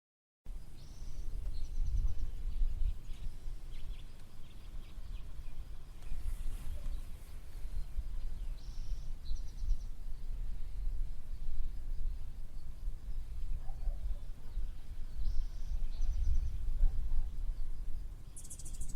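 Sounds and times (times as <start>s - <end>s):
faint bird chirps: 0.6s - 18.9s
small bird singing: 0.6s - 18.9s.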